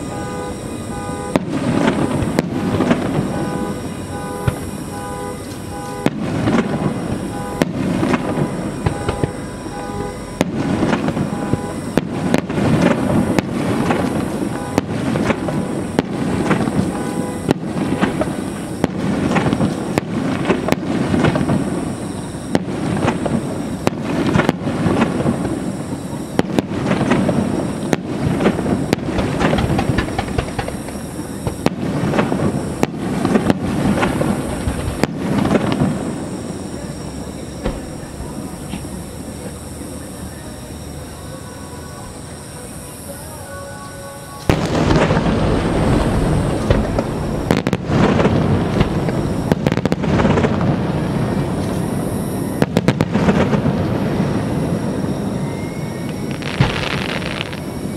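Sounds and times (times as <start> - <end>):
firework shells booming: 0.0 - 41.0, 44.4 - 57.9
firework crackling: 0.0 - 57.9.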